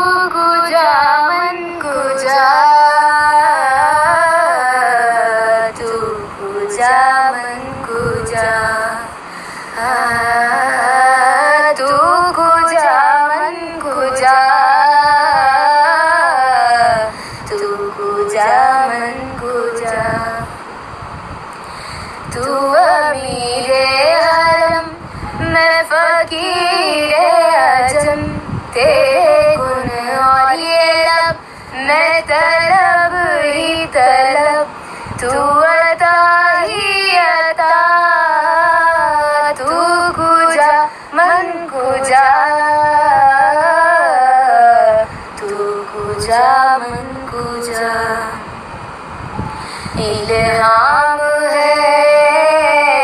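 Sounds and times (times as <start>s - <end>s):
high voice singing: 0.0s - 53.0s.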